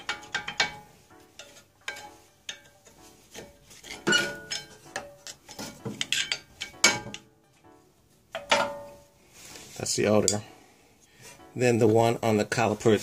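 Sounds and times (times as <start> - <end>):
metal scraping: 0.0 - 10.5.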